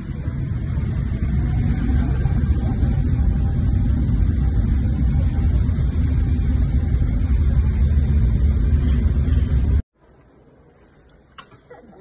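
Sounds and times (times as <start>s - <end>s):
jet airliner cabin roar: 0.0s - 9.8s.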